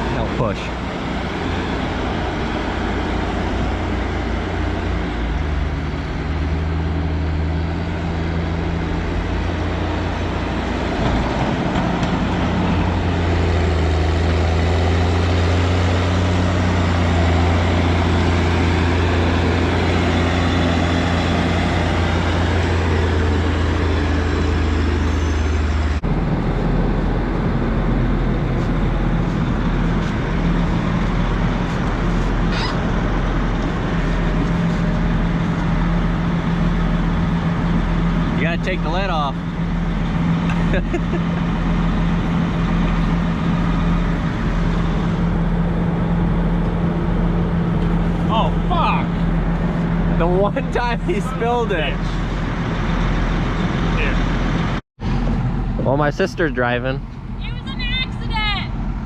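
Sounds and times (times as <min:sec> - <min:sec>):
heavy diesel engine running: 0:00.0 - 0:59.0
low engine drone: 0:00.0 - 0:59.0.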